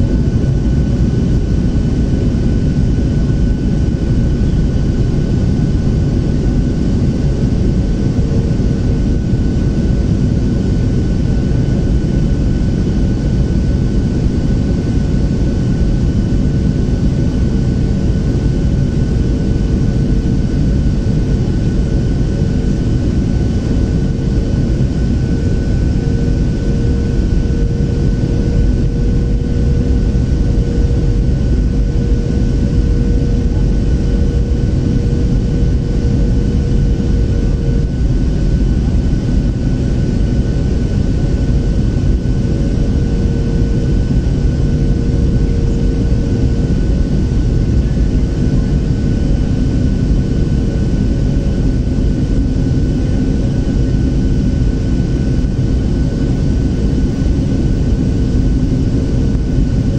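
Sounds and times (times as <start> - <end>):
airplane cabin rumble: 0.0 - 59.9
low hum: 0.0 - 59.9.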